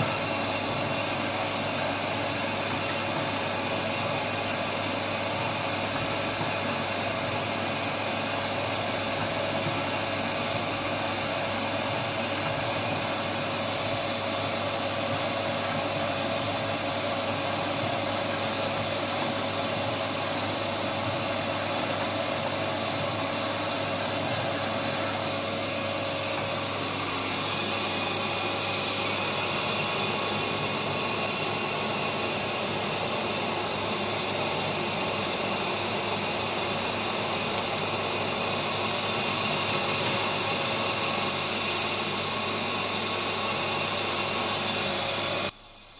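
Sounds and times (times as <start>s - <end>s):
cutting plotter whirring: 0.0s - 45.6s.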